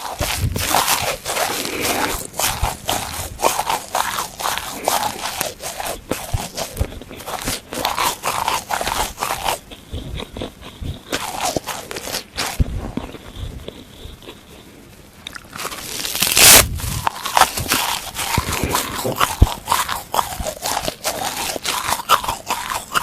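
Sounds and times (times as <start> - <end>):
sponge being chewed crunching: 0.0 - 23.0.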